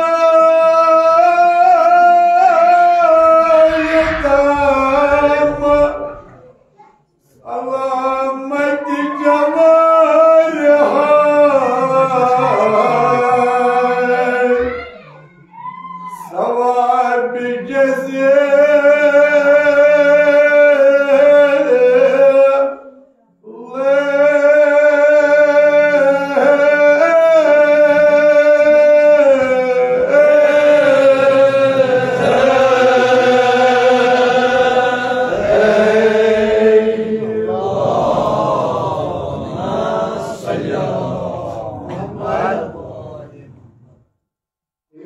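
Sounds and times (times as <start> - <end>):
man chanting: 0.0 - 6.5, 7.3 - 15.1, 16.2 - 43.9
group chanting: 0.0 - 6.6, 7.2 - 44.1.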